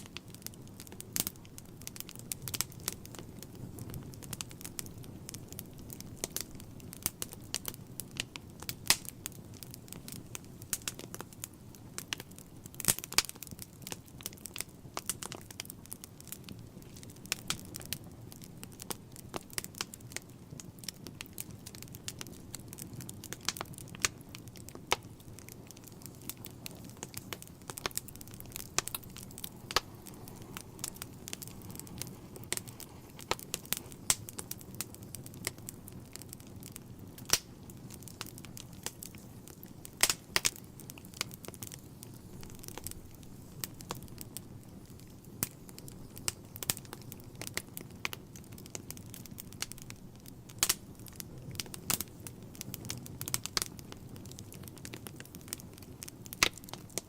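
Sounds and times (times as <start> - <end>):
logs crackling and popping: 0.0 - 57.0
low flame noise: 0.0 - 57.0.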